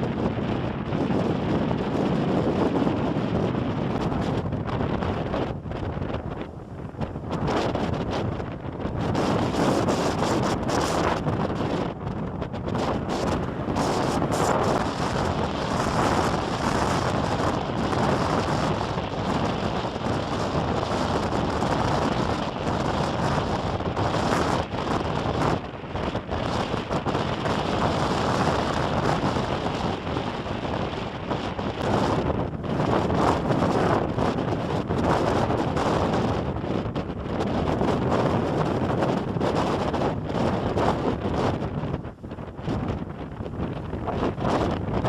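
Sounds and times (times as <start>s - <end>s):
gusting wind buffeting microphone: 0.0s - 45.0s.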